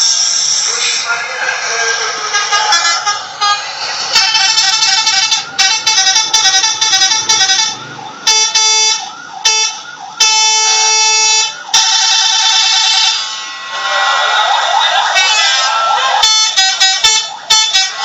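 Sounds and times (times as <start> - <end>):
musical bus air horns: 1.7 - 14.4, 16.2 - 18.0.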